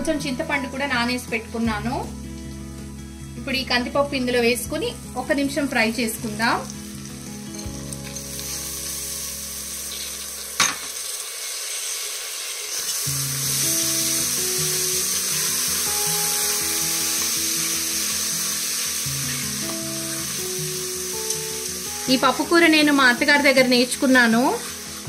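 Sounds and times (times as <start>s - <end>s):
lentils sizzling in hot oil: 0.0s - 25.0s
soft background music: 0.0s - 25.0s.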